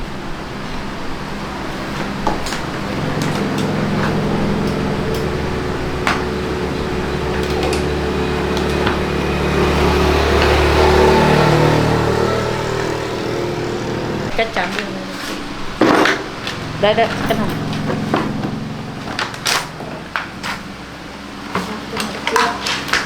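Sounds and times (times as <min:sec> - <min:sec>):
motor running: 0:01.3 - 0:14.9, 0:15.9 - 0:21.1.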